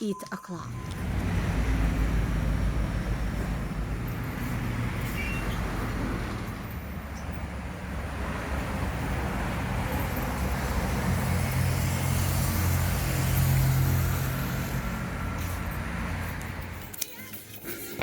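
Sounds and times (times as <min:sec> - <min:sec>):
vehicle passing by: 0:00.7 - 0:16.9.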